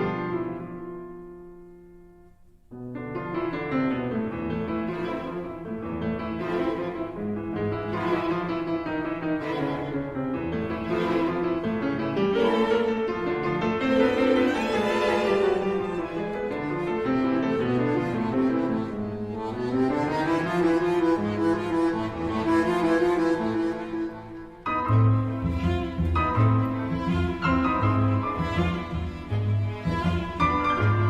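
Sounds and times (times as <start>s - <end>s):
cello violin and piano music: 0.0s - 1.6s, 2.9s - 31.0s.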